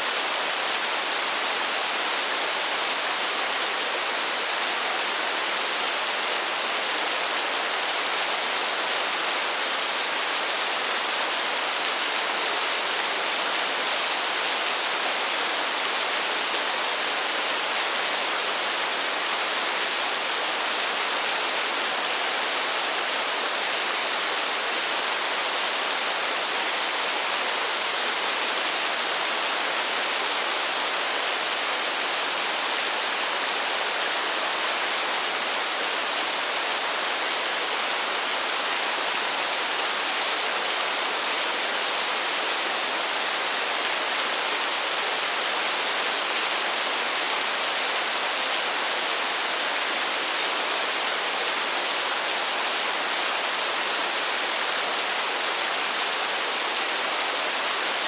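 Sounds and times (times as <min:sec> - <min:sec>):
rain falling in a forest: 0:00.0 - 0:58.0.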